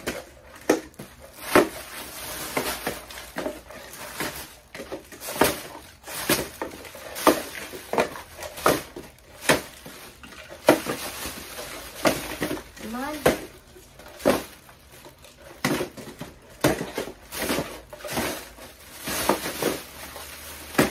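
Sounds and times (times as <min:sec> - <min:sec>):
packages knocking in cardboard box: 0:00.0 - 0:20.9.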